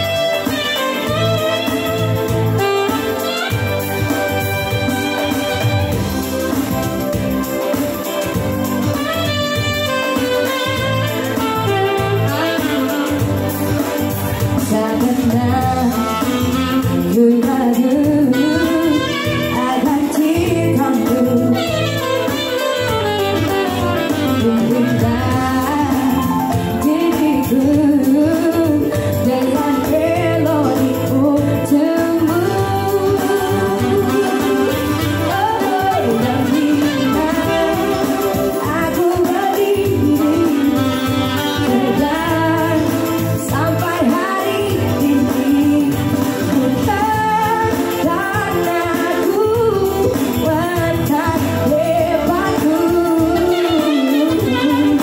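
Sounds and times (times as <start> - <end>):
saxophone playing: 0.0 - 14.6, 15.6 - 49.1, 51.9 - 55.0
electronic keyboard playing: 0.0 - 55.0
woman singing into microphone: 0.0 - 55.0.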